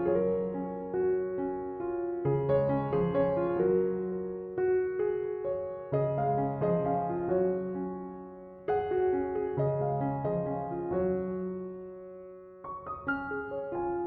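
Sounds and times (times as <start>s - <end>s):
piano-like keyboard music: 0.0s - 14.0s.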